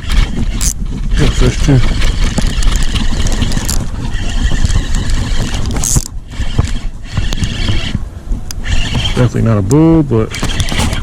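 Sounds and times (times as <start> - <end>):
steady rumbling noise: 0.0 - 11.0.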